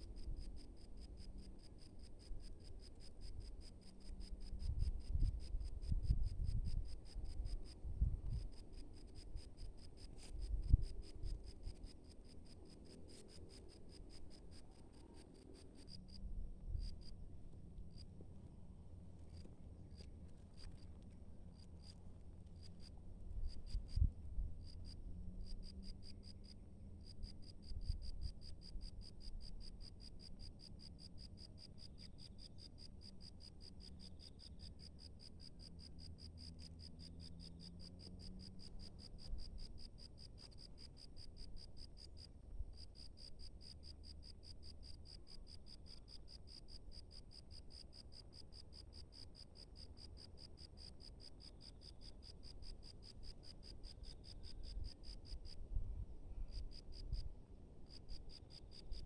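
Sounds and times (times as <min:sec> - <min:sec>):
cricket trilling: 0:00.0 - 0:17.2, 0:19.3 - 0:55.6, 0:56.3 - 0:59.0.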